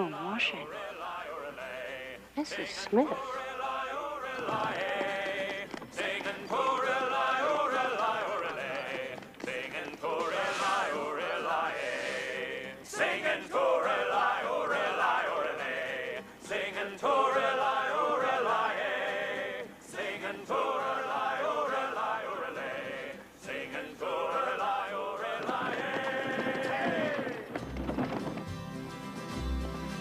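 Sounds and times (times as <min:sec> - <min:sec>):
men singing in unison: 0:00.0 - 0:27.6.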